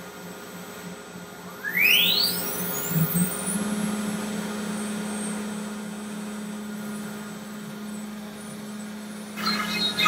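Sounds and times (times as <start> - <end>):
cnc router spindle hum: 0.0 - 10.0.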